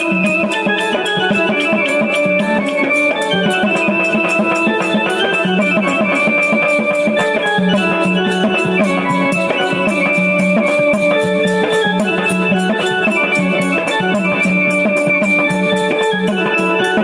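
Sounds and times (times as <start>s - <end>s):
melodic music with fast beat: 0.0s - 17.0s.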